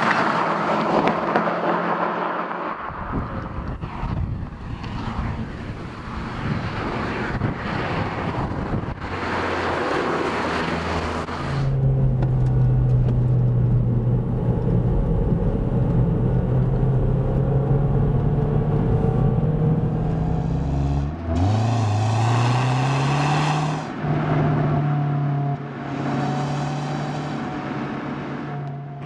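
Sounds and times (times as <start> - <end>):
engine and road rush: 0.0 - 29.0.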